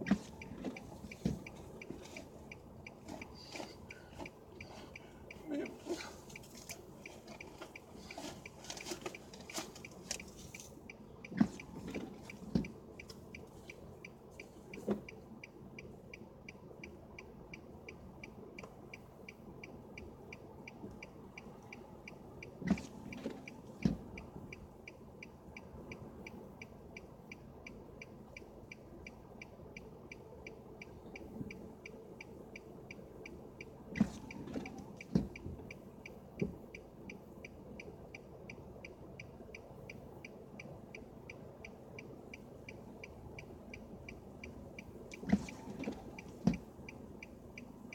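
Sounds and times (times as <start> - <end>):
dashboard signal ticking rapidly: 0.0 - 47.9.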